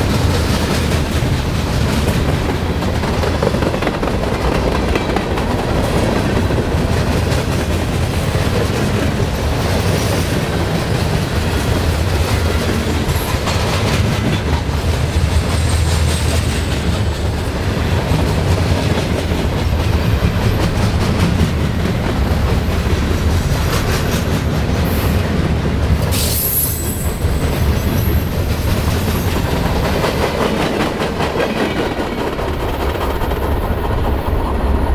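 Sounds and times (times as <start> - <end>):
wheels clacking over rail joints: 0.0 - 34.8
freight train rumbling past: 0.0 - 34.9.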